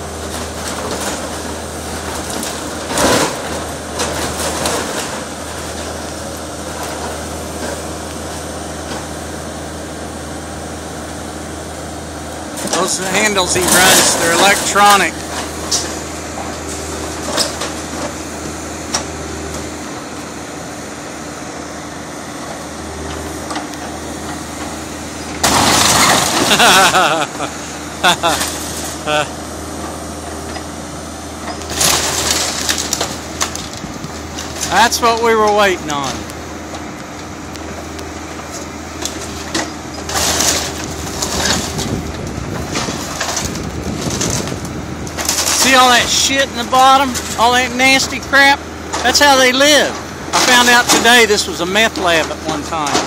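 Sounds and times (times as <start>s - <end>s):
timbers crunching and cracking: 0.0s - 9.2s, 12.4s - 20.6s, 22.0s - 30.8s, 31.4s - 53.0s
diesel engine running: 0.0s - 53.0s.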